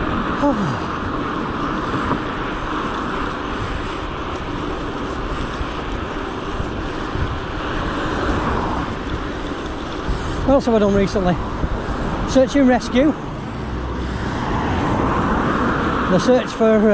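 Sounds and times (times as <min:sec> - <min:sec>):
road and traffic noise: 0:00.0 - 0:16.9
wind rushing over microphone: 0:00.0 - 0:16.9.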